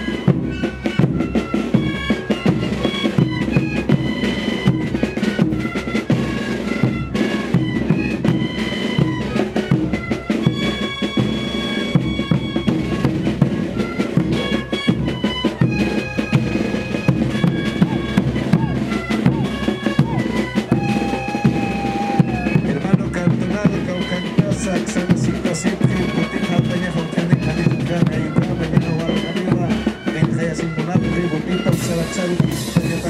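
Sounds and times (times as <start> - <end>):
drums beating: 0.0 - 33.0
wooden flutes playing melody: 0.0 - 33.0.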